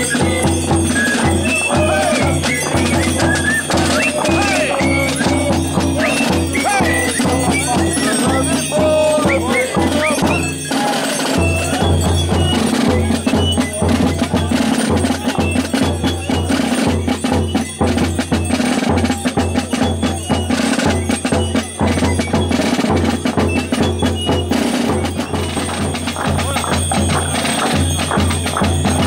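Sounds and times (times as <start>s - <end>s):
brass bells jingling: 0.0s - 29.0s
drums beating a steady rhythm: 0.0s - 29.0s.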